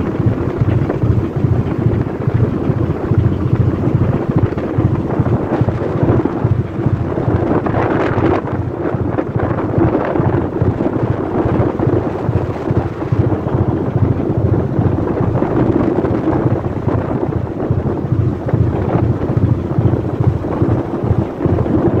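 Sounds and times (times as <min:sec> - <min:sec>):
engine drone: 0:00.0 - 0:22.0
rough sea rushing: 0:00.0 - 0:22.0
wind buffeting microphone: 0:00.0 - 0:22.0.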